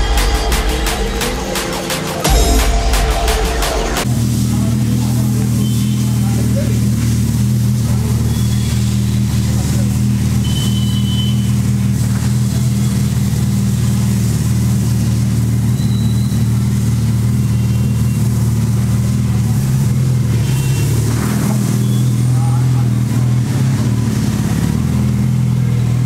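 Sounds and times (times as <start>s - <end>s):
motorcycle engine idling: 2.2s - 26.0s.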